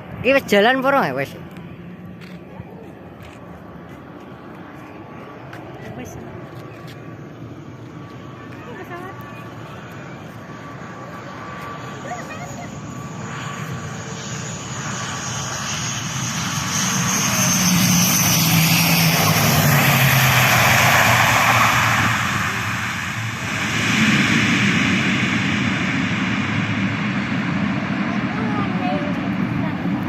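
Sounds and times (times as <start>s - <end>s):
turboprop airliner landing: 0.0s - 30.0s.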